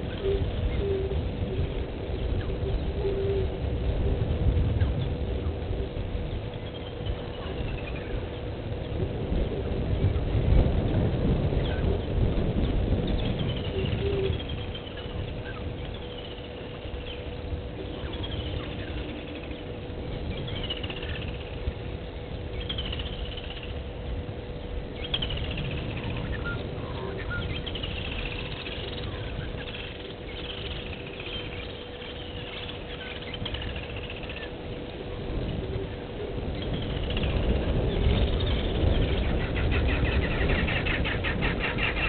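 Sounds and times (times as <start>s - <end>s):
faint steady hum: 0.0s - 42.0s
low rumbling background: 0.0s - 42.0s.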